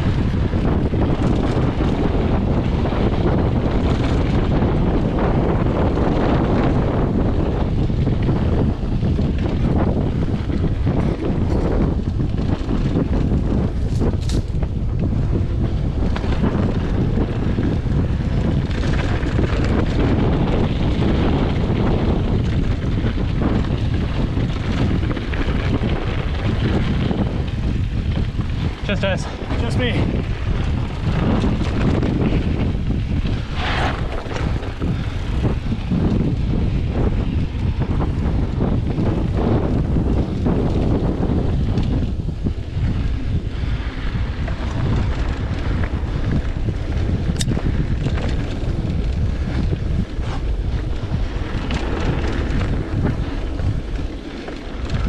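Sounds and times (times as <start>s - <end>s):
wind buffeting microphone: 0.0s - 55.0s
knocks from bike on rough trail: 9.1s - 28.8s, 30.0s - 55.0s
tyres rolling on dirt: 9.2s - 55.0s.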